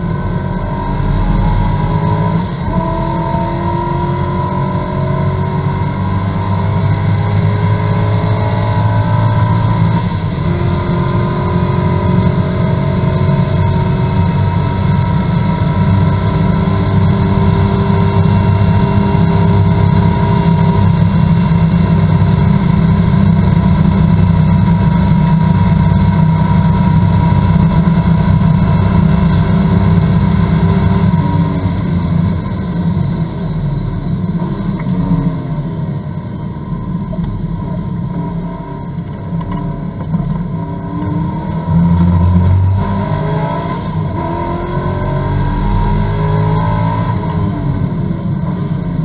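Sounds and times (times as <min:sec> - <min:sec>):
race car engine at full throttle: 0:00.0 - 0:49.0.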